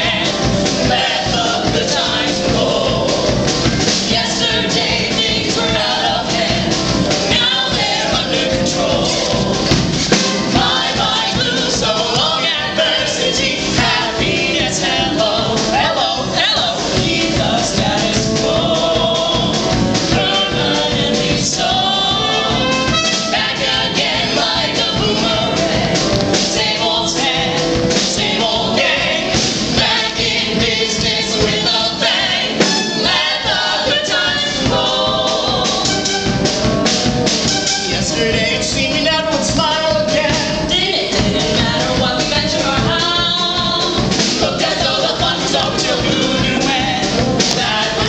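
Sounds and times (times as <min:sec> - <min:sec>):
group singing show tune: 0:00.0 - 0:48.0
musical accompaniment: 0:00.0 - 0:48.0.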